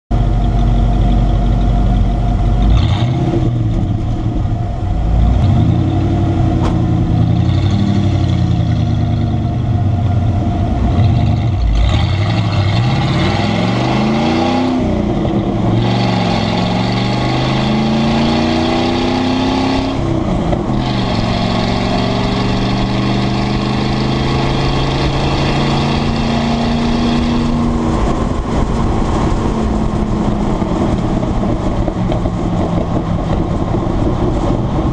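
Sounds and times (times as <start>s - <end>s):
truck engine accelerating through gears: 0.1s - 34.9s.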